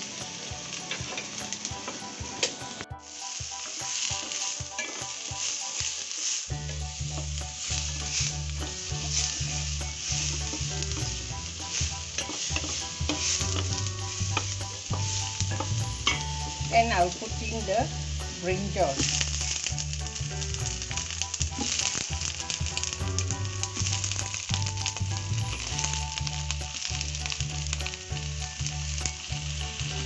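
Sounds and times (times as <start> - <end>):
spices sizzling in hot oil: 0.0 - 30.0
wooden spatula stirring: 3.1 - 30.0.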